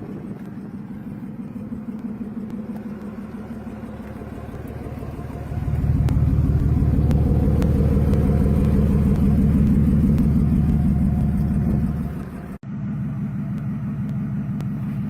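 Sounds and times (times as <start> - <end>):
loud car engine running: 0.0 - 15.0.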